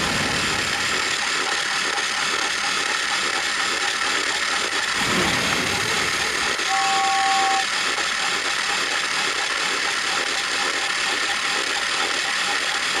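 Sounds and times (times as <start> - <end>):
toy motor and gears whirring: 0.4 - 13.0.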